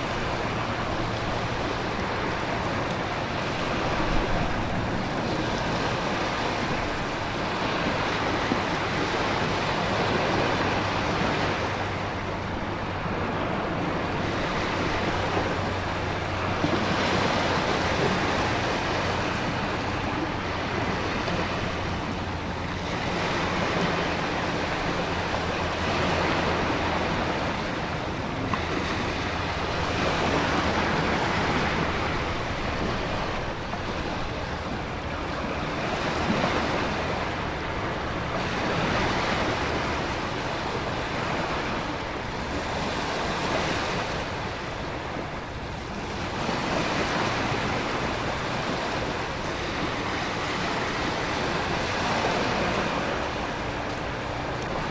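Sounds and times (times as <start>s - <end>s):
low steady drone: 0.0s - 54.9s
ocean surf: 0.0s - 54.9s.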